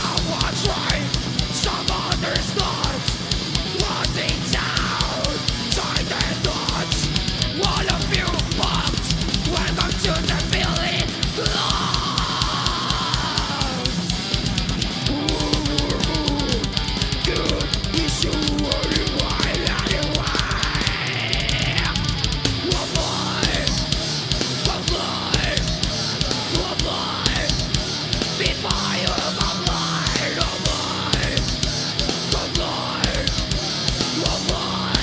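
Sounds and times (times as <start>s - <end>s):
distorted electric guitars: 0.0s - 35.0s
fast bass drum strokes: 0.0s - 35.0s.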